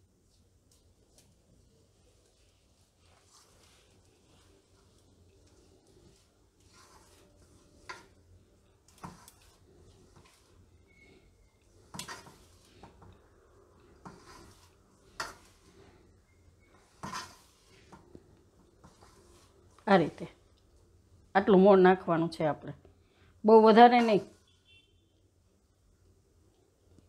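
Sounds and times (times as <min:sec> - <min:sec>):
flour rustling: 0:00.0 - 0:20.9, 0:23.5 - 0:24.6.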